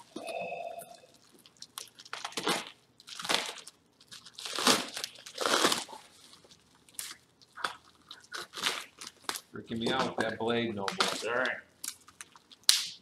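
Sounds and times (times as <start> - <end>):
bubble wrap crinkling: 1.0 - 13.0.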